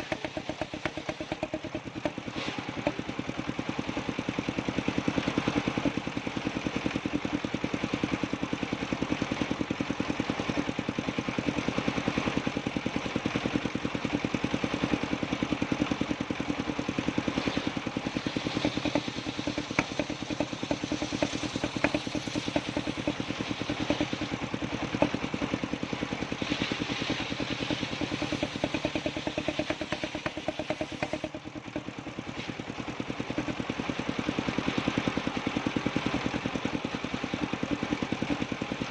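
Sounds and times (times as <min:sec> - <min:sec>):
sharp clicks and clatter: 0:00.0 - 0:03.2, 0:05.1 - 0:38.9
engine-driven sawmill running: 0:00.0 - 0:38.9.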